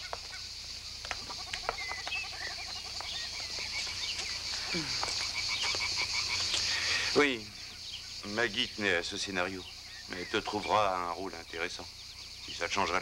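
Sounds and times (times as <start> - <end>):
birds chirping: 0.0 - 13.0
frogs croaking: 0.0 - 13.0
high insect drone: 0.0 - 13.0.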